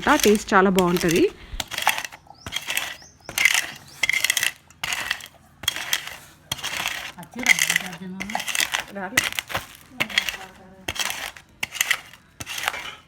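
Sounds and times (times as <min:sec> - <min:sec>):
bowl crushing seeds: 0:00.0 - 0:13.0.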